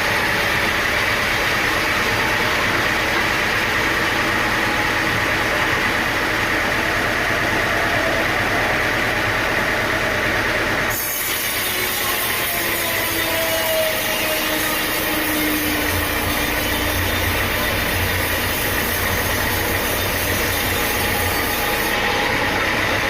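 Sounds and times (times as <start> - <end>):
sawmill machinery running: 0.0 - 23.0.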